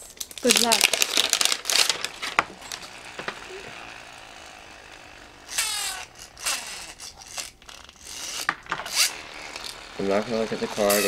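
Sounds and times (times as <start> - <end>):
plastic rip cord ratcheting: 0.4 - 11.0.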